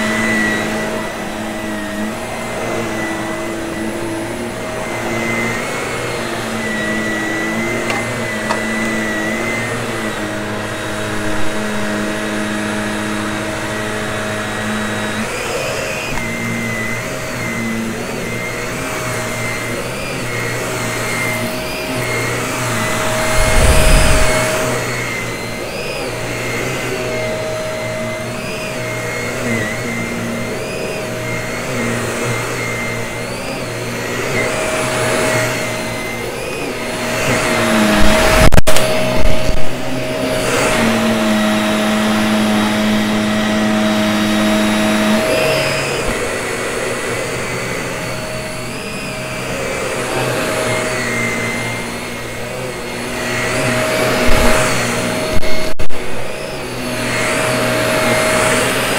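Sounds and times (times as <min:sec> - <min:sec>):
vacuum cleaner motor whine: 0:00.0 - 0:58.9.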